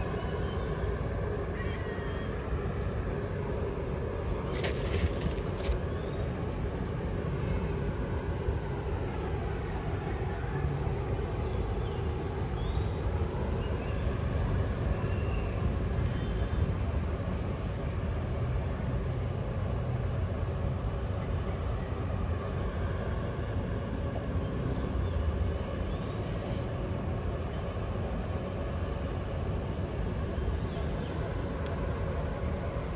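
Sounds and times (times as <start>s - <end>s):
low outdoor rumble: 0.0s - 32.9s.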